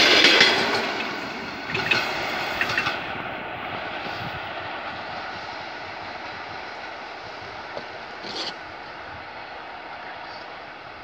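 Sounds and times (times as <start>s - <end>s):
electric train rolling on track: 0.0s - 11.0s.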